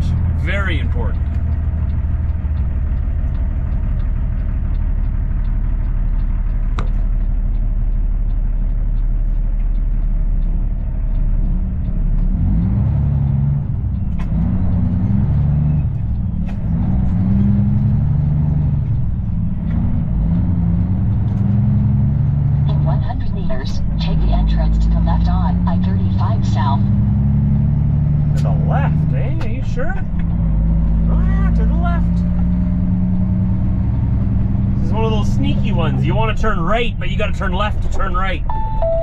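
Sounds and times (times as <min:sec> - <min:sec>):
truck diesel engine: 0:00.0 - 0:39.0
turn signal ticking: 0:00.0 - 0:39.0.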